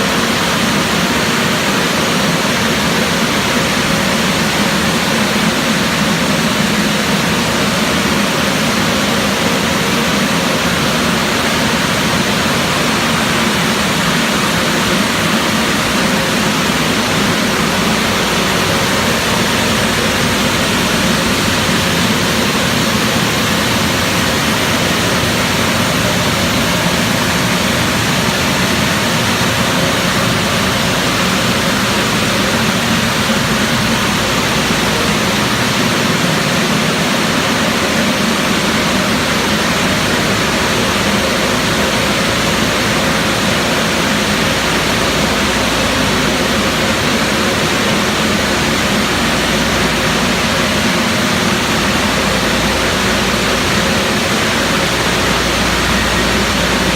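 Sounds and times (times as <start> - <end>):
automatic car wash rushing: 0.0 - 56.9.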